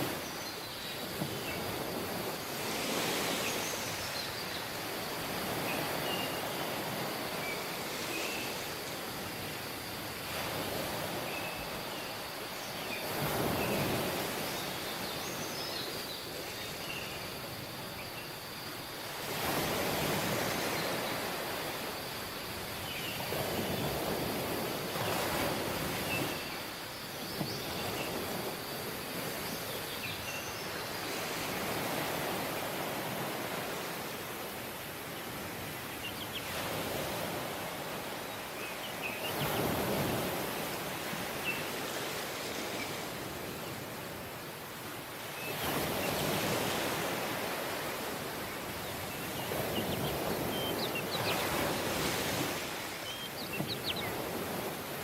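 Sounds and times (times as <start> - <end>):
waves washing onto beach: 0.0 - 55.0.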